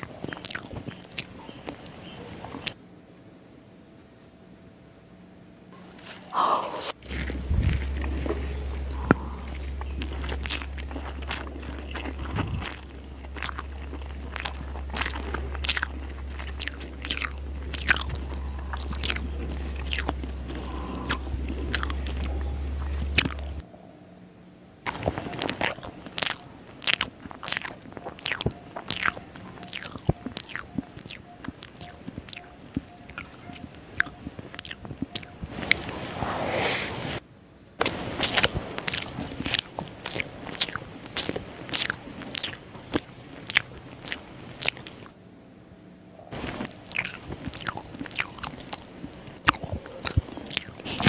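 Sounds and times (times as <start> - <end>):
wet chewing and mouth smacks: 0.0 - 2.8, 6.0 - 23.6, 24.9 - 36.1, 37.8 - 45.1, 46.3 - 51.0
steady low hum: 0.0 - 51.0.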